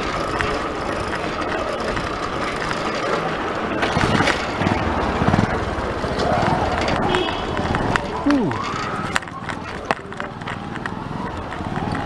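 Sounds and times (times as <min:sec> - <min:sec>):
bicycle road and wind noise: 0:00.0 - 0:12.0.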